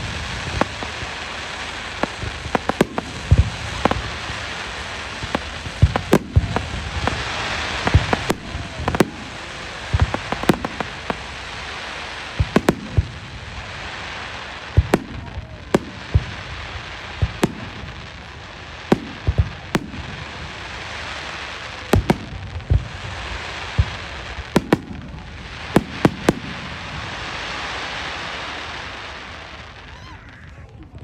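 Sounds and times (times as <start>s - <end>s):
firework shells bursting: 0.0s - 18.3s, 18.9s - 27.2s
steady hiss: 0.0s - 29.9s.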